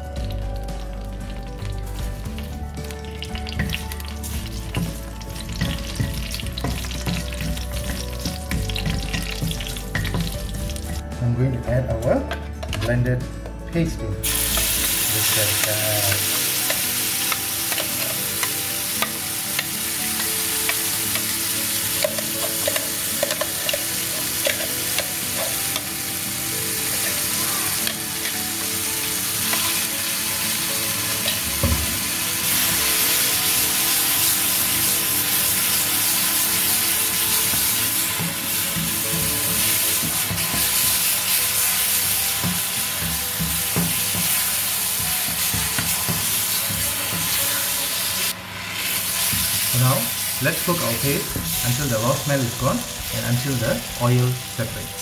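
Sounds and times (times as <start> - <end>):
paste sizzling in a wok: 0.2 - 11.0, 14.2 - 55.0.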